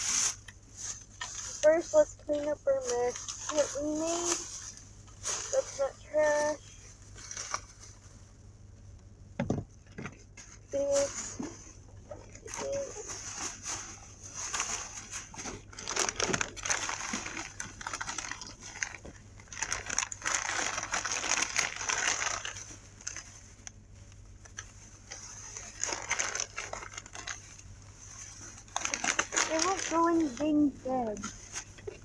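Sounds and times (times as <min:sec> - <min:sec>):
packaging rustling and crinkling: 0:00.0 - 0:08.3, 0:10.2 - 0:32.0.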